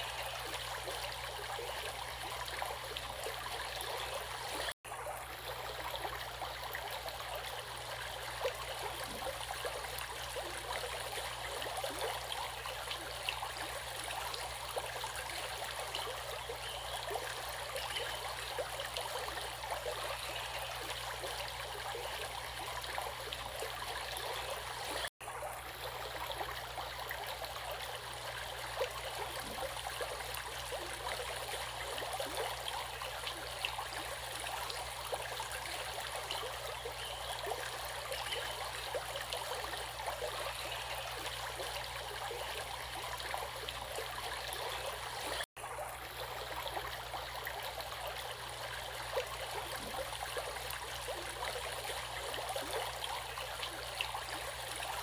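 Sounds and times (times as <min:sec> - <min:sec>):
stream water rushing and splashing: 0:00.0 - 0:55.0.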